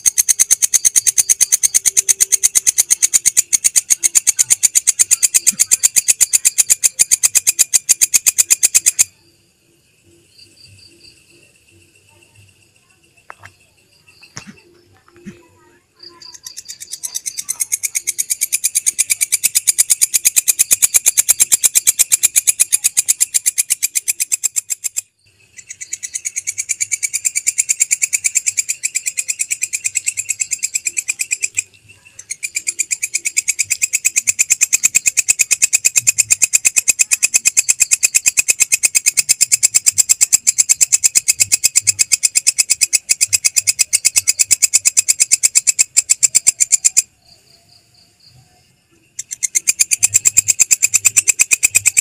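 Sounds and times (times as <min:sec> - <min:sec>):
katydid clicking call: 0:00.0 - 0:09.2, 0:13.1 - 0:48.3, 0:49.1 - 0:52.0.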